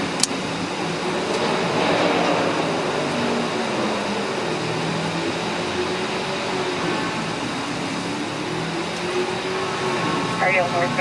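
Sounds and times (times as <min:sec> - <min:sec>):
faint engine hum: 0:00.0 - 0:11.0
vehicle running rush: 0:00.0 - 0:11.0.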